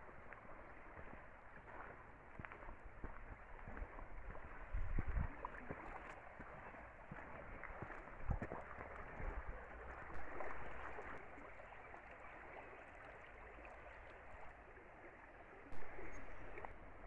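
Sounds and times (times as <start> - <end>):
river rippling over rocks: 0.0 - 17.0.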